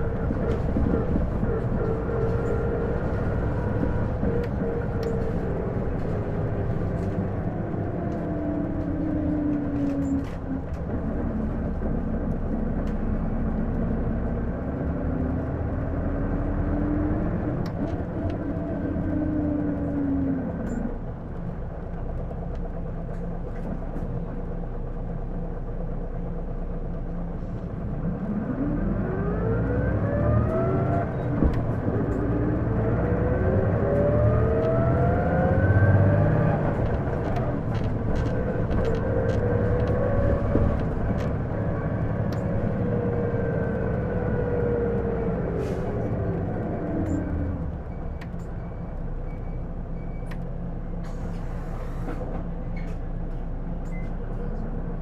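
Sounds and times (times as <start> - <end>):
bus engine drone: 0.0 - 55.0
bus transmission whine: 0.0 - 55.0.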